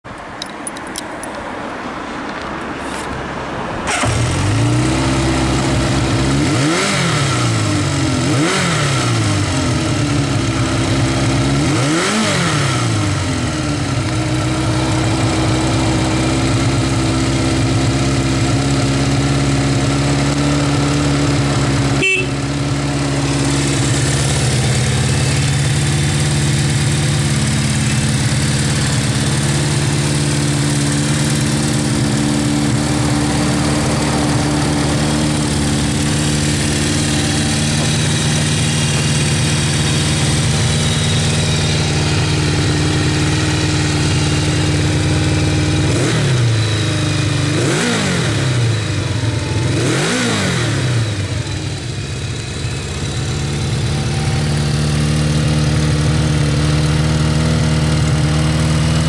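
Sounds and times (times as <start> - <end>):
motorcycle engine revving and idling: 3.9 - 59.0.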